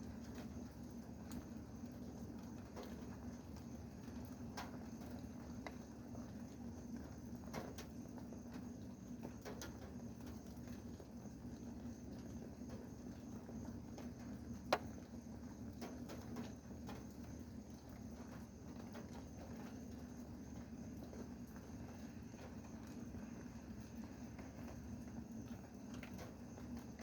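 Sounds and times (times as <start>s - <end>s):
raindrops tapping on hard surface: 1.2s - 27.0s.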